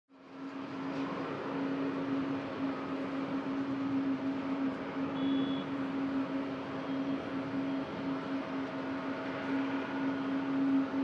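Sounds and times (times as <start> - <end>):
distant jet engines at takeoff: 0.1 - 11.0.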